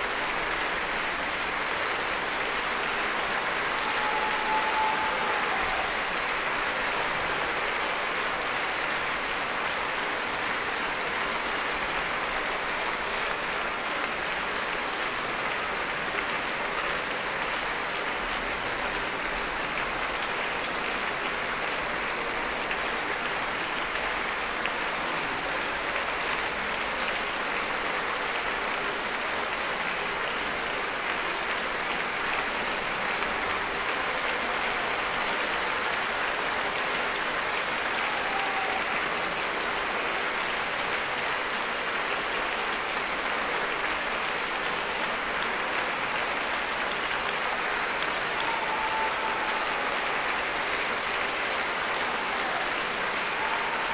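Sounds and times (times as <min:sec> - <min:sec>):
audience applauding: 0:00.0 - 0:53.9.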